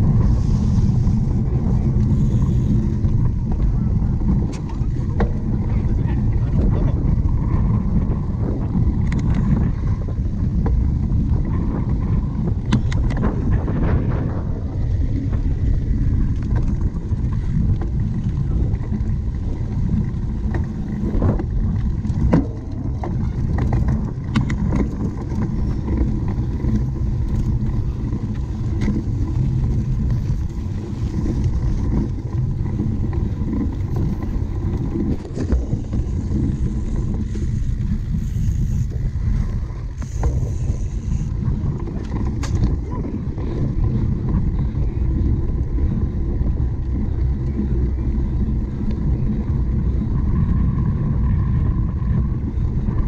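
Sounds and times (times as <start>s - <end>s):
wind rumble on microphone: 0.0s - 53.0s.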